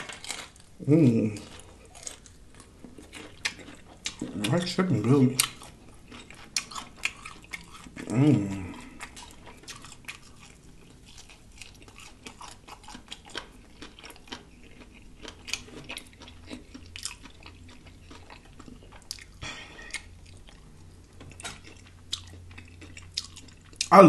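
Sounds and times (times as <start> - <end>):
chewing fried chicken: 0.0 - 24.0.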